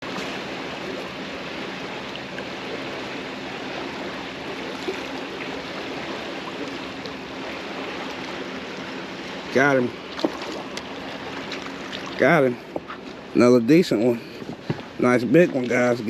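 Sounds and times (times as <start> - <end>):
choppy water rushing: 0.0 - 16.0.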